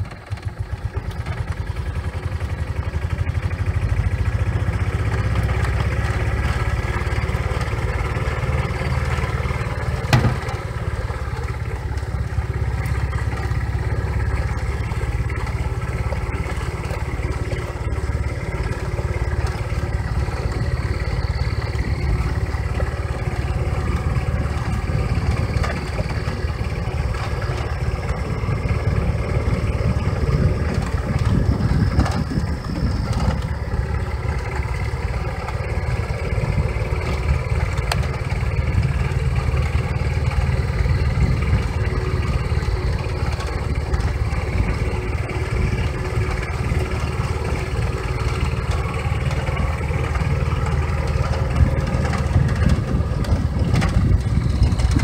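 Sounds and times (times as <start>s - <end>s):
farm vehicle engine running: 0.0s - 55.0s.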